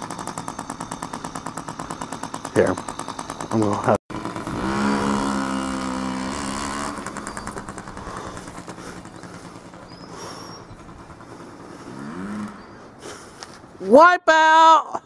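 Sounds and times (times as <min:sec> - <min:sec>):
two-stroke engine revving: 0:00.0 - 0:13.7.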